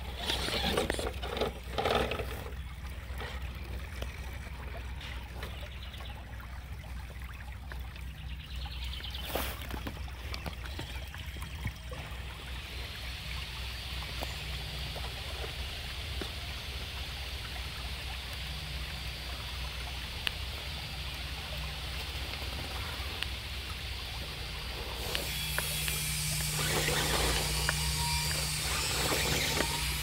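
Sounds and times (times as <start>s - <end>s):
running water rushing: 0.0s - 30.0s.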